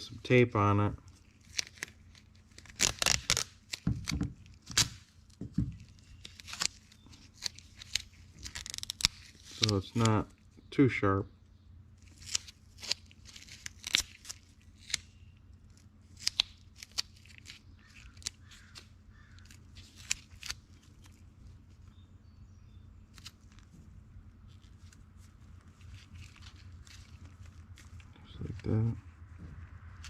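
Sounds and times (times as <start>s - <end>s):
tape crackling and tearing: 1.0s - 10.4s, 12.0s - 22.0s, 23.0s - 30.0s.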